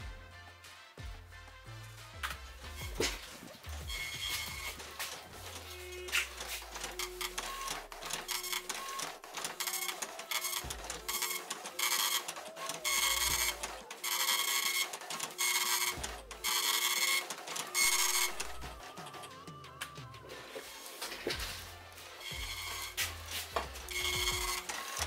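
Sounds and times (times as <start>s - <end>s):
dot-matrix printer printing: 2.7s - 19.6s, 20.2s - 25.0s.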